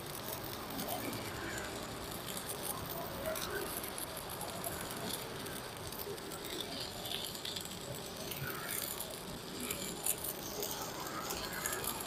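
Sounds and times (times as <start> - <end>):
welding arc sizzling and crackling: 0.0 - 12.0.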